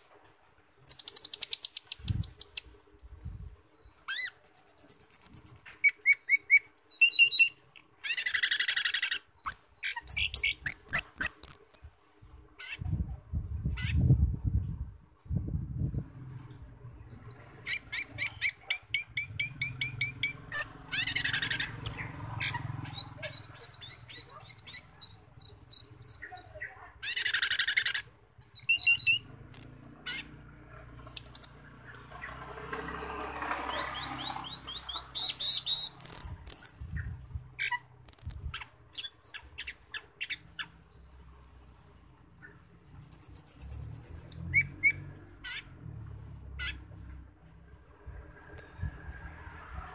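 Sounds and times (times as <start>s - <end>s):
sharp loud bird calls: 0.8s - 12.8s, 17.2s - 42.0s, 43.0s - 47.9s
starling singing: 0.8s - 12.8s, 17.1s - 42.0s, 43.0s - 46.9s.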